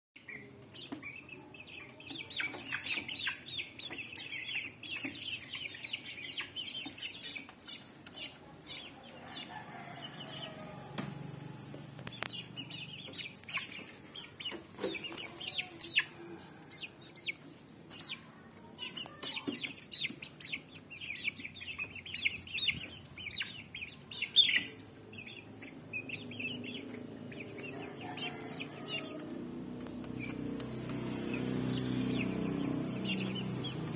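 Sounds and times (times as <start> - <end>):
chicks peeping and clucking: 0.2 - 33.9.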